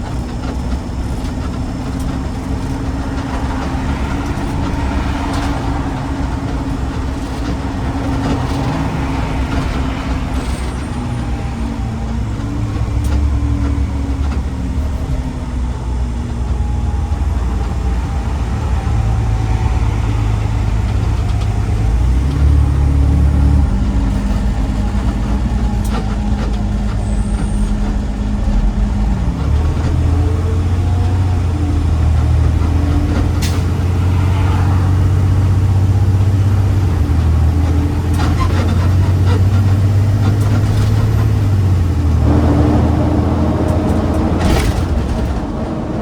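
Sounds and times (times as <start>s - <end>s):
garbage truck engine drone: 0.0s - 46.0s.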